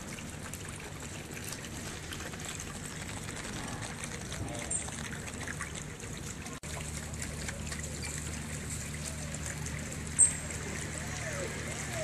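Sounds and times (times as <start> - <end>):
floodwater running: 0.0 - 12.0.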